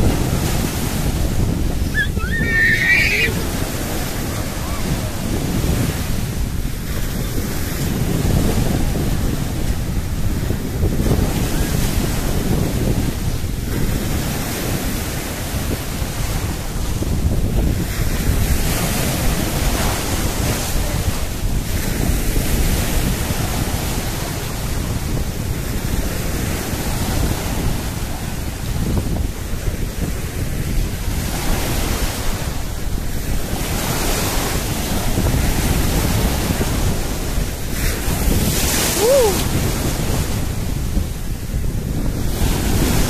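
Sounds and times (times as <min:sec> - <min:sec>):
surf breaking on shore: 0:00.0 - 0:43.0
wind rumbling on microphone: 0:00.0 - 0:43.0.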